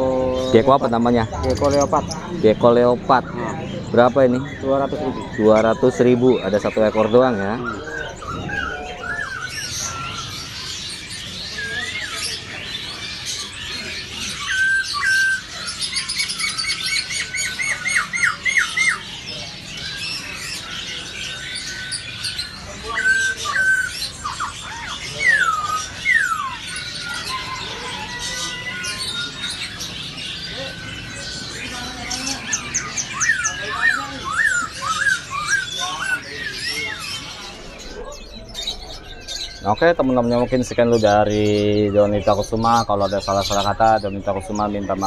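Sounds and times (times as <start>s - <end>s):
songbirds chirping and trilling: 0.0s - 45.0s.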